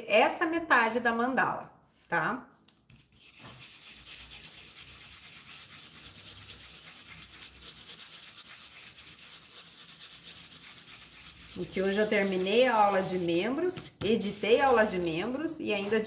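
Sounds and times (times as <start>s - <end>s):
brush scrubbing a surface: 3.0s - 16.0s.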